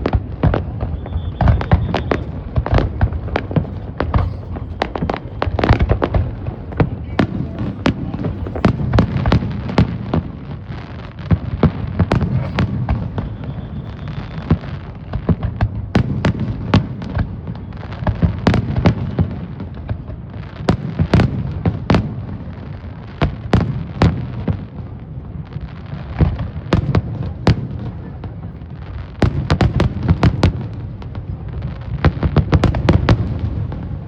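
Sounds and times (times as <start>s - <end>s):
fireworks booming: 0.0s - 34.0s
fireworks cracks and pops: 0.0s - 34.0s.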